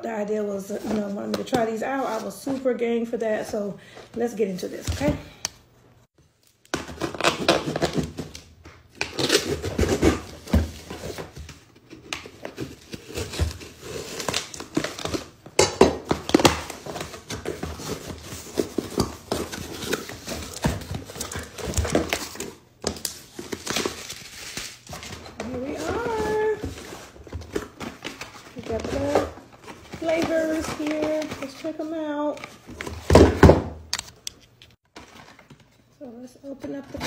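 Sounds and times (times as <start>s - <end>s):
cardboard and tape rustling: 0.6s - 3.6s, 4.2s - 5.4s, 6.4s - 37.0s.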